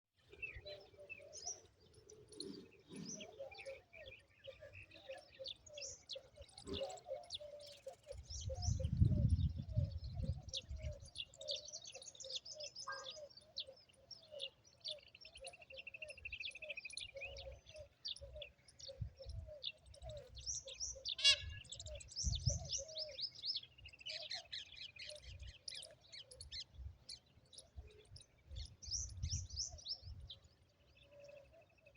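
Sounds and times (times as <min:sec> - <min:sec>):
short low repeated bird calls: 0:00.2 - 0:31.9
small birds chirping and trilling: 0:00.2 - 0:31.9.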